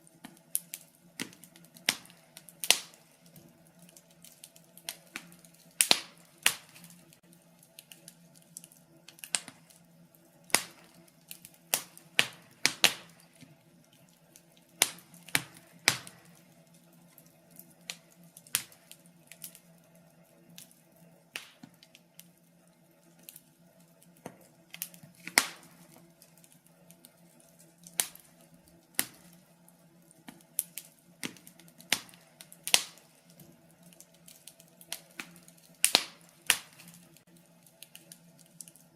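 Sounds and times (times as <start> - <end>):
logs crackling in a fireplace: 0.0 - 38.9.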